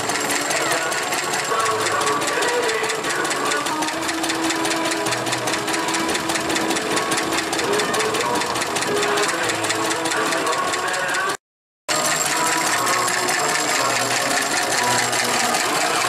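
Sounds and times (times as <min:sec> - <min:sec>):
stationary engine clattering: 0:00.0 - 0:16.0.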